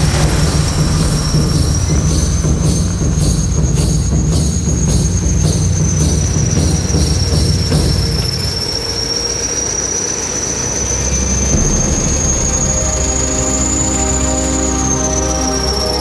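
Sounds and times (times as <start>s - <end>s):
diesel machinery rumbling: 0.0s - 9.0s, 10.6s - 16.0s
high-pitched squeal: 0.0s - 16.0s.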